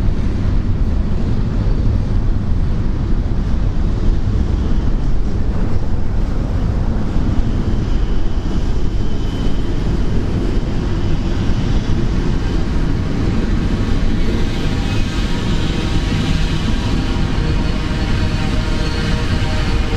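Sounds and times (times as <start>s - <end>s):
traffic under overpass: 0.0s - 19.9s.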